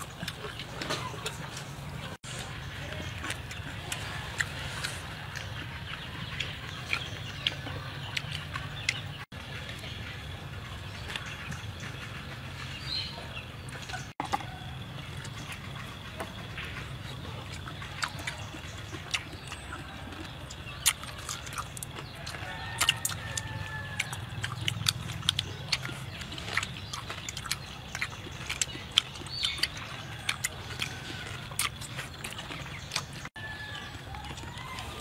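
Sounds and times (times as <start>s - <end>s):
chewing crunches: 0.0s - 35.0s
chickens clucking: 0.0s - 35.0s.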